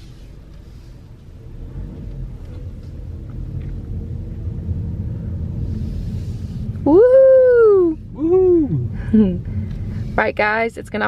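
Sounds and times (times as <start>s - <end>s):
car engine: 0.0s - 11.0s
road rumble inside car: 0.0s - 11.0s.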